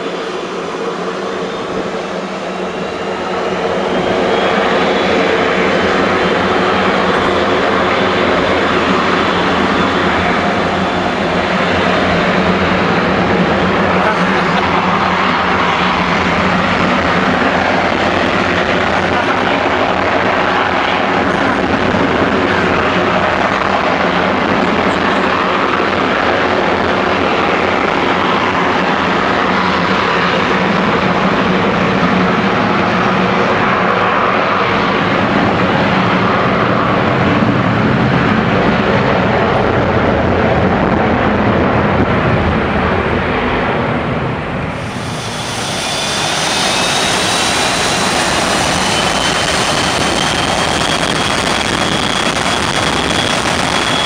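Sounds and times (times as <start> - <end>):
jet engine roar: 0.0 - 54.0
rising turbine whine: 0.0 - 54.0.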